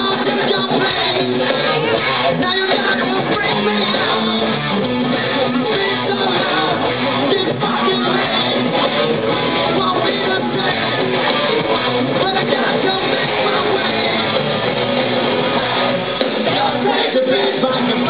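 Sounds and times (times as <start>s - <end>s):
drums: 0.0s - 18.0s
electric guitars: 0.0s - 18.0s
lead singer: 0.0s - 18.0s.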